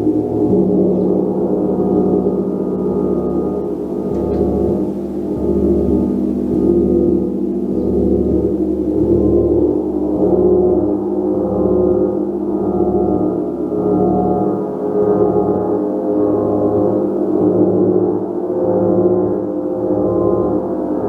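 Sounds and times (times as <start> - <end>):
large gong: 0.0 - 21.0.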